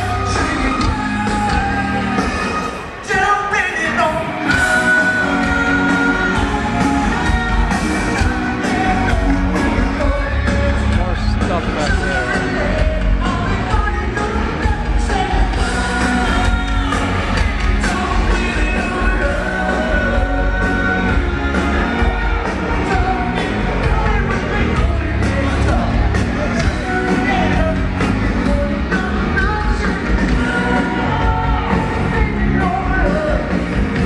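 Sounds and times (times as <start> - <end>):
guitars: 0.0 - 34.0
live rock band playing: 0.0 - 34.0
person singing: 0.0 - 34.0.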